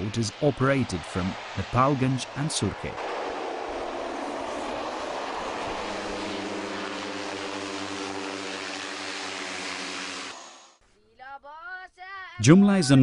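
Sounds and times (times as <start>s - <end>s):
turboprop plane engine running: 0.0s - 10.8s.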